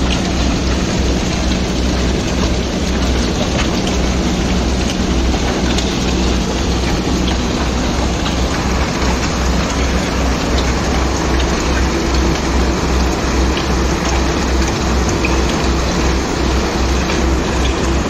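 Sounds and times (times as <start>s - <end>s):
concrete pump machine droning: 0.0s - 18.0s.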